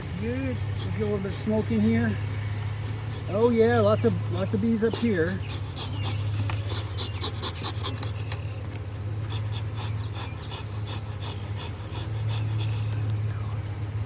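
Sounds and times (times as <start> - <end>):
bees buzzing: 0.0 - 13.0
soft breathy puffs: 0.0 - 13.3.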